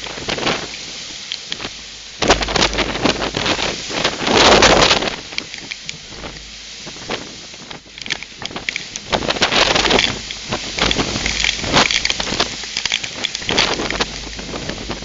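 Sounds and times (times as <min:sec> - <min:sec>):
rain: 0:00.0 - 0:15.0
sharp ticks and clatters: 0:00.0 - 0:15.0
wind gusting into microphone: 0:00.0 - 0:15.0.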